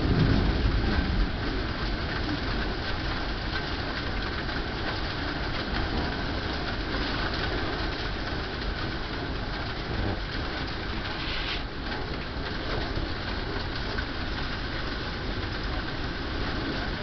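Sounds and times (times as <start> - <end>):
hail clattering on a deck: 0.0 - 17.0.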